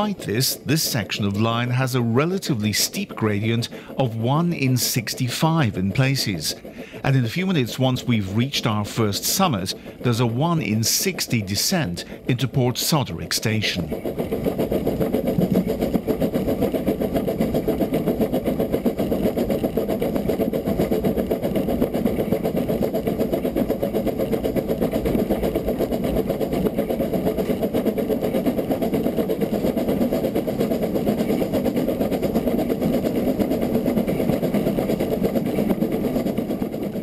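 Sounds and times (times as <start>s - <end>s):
steam locomotive chuffing: 0.0s - 37.0s.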